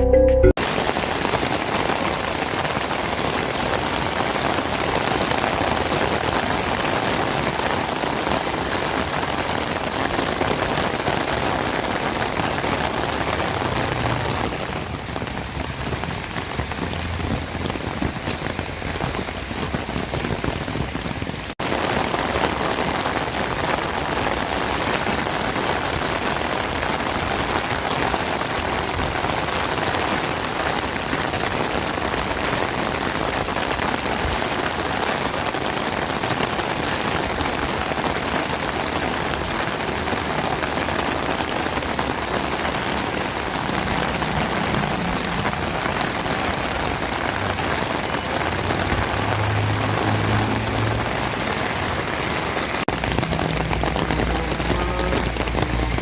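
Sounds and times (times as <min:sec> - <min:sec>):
heavy rain falling: 0:00.6 - 0:56.0.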